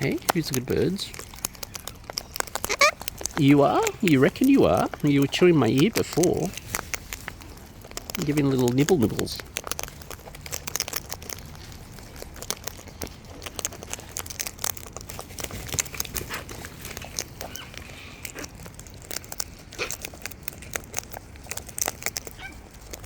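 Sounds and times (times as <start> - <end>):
parrots cracking food: 0.0 - 23.0
soft rustling: 0.0 - 23.0.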